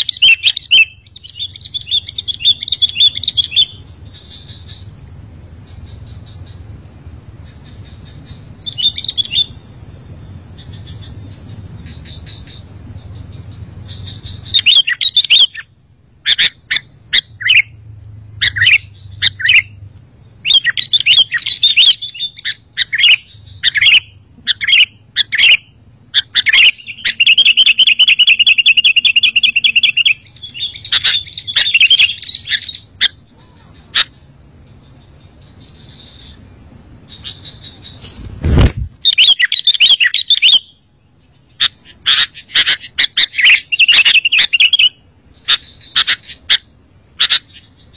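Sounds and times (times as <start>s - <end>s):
bird chirping and trilling: 0.0s - 6.7s, 7.4s - 9.8s, 10.4s - 47.9s.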